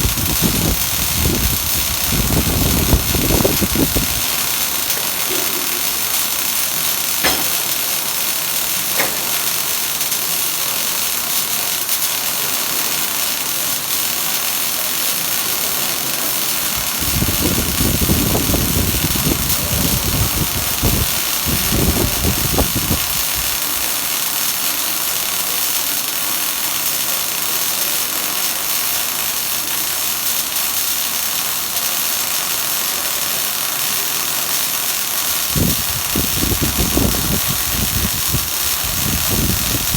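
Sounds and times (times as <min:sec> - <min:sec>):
arc welding hiss: 0:00.0 - 0:39.9.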